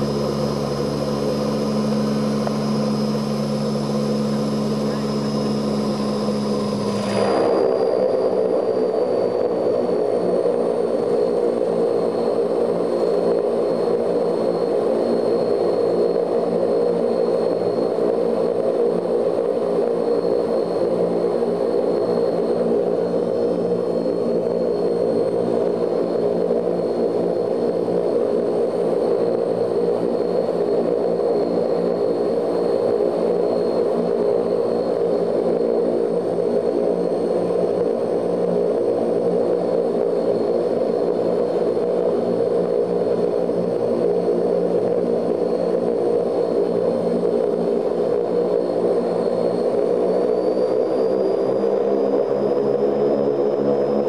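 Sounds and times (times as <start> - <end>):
turboprop engines droning: 0.0 - 54.0.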